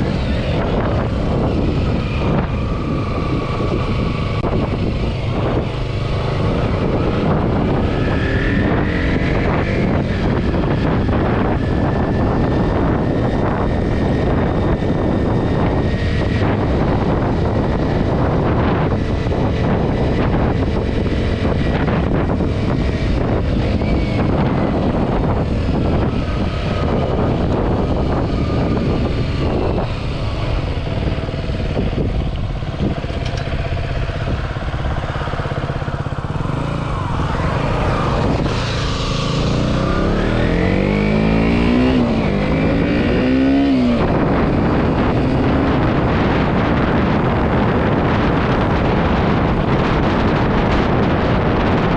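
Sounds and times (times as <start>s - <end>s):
motorcycle engine running: 0.0s - 51.9s
wind buffeting microphone: 0.0s - 51.9s.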